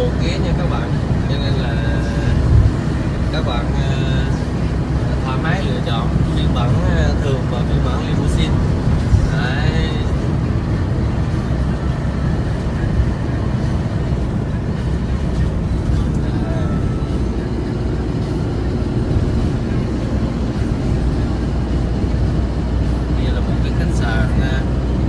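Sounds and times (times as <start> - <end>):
minibus engine hum: 0.0 - 25.0
tyre and road noise: 0.0 - 25.0.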